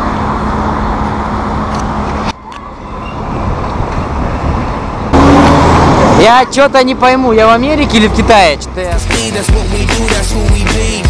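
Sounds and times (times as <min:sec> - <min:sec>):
passing vehicles: 0:00.0 - 0:11.0.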